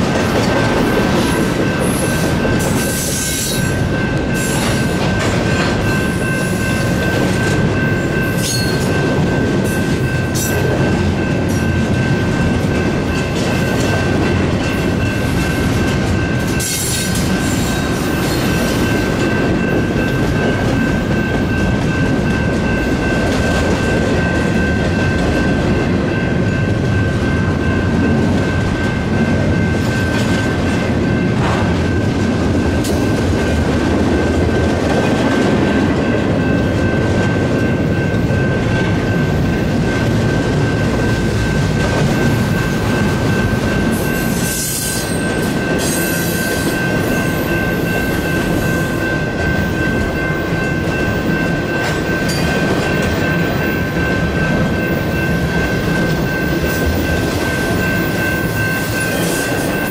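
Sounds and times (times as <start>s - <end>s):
crossing warning bells ringing: 0.0s - 59.9s
train wheels clattering on rails: 0.0s - 59.9s.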